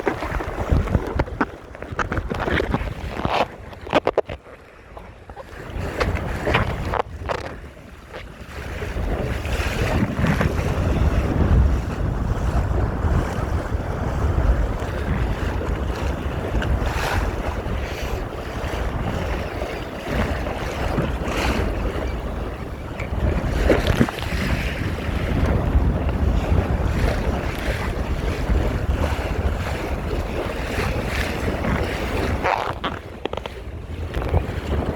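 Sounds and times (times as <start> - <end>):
water splashing along hull: 0.0 - 34.9
wind buffeting microphone: 0.0 - 34.9.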